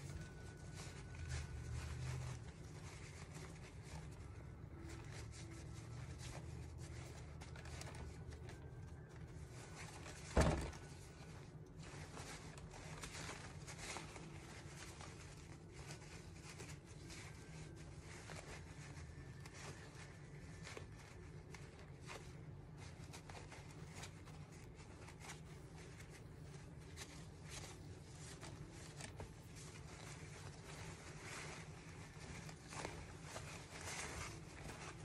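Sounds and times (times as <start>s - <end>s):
low steady hum: 0.0s - 35.0s
paper towel rustling and rubbing: 0.0s - 35.0s.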